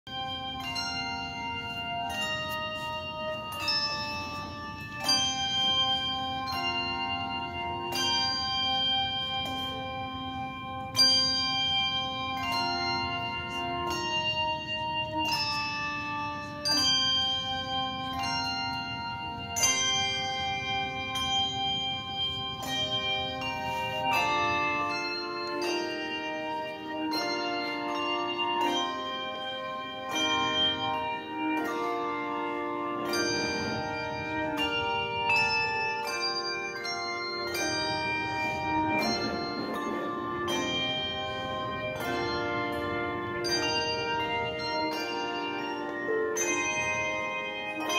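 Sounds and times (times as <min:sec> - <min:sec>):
handbell choir playing: 0:00.0 - 0:47.9.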